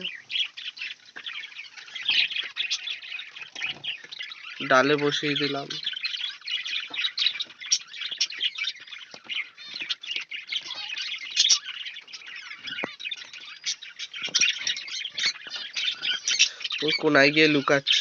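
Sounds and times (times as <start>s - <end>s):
birds chirping and chattering: 0.0s - 18.0s.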